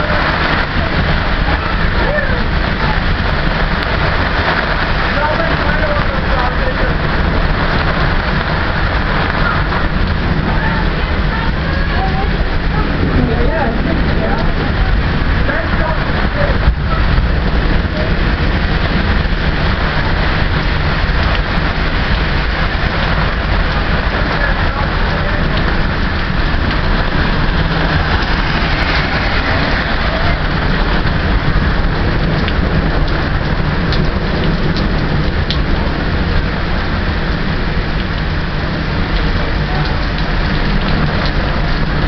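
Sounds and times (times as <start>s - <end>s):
heavy rain hissing: 0.0s - 42.0s
low rumble: 0.0s - 42.0s.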